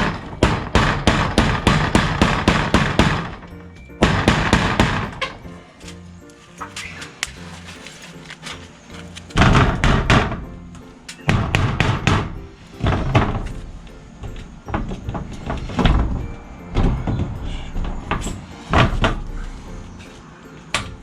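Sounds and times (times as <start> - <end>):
knocks and thuds of building work: 0.0 - 6.0, 6.6 - 21.0
background music: 0.0 - 21.0.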